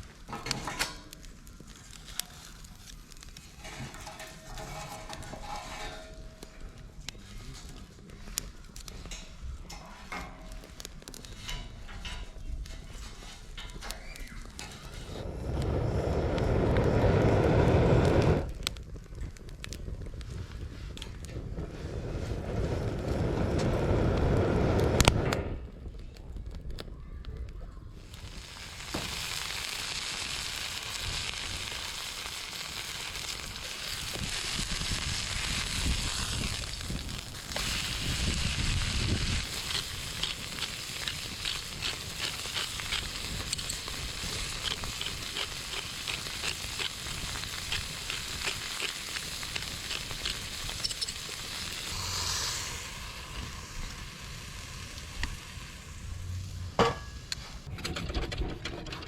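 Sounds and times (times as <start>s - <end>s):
steak sizzling with pops: 0.0s - 25.5s, 28.0s - 57.7s.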